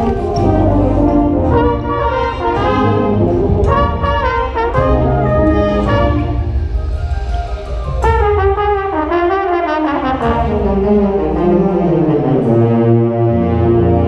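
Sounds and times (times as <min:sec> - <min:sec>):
brass ensemble playing: 0:00.0 - 0:06.8, 0:08.0 - 0:14.0.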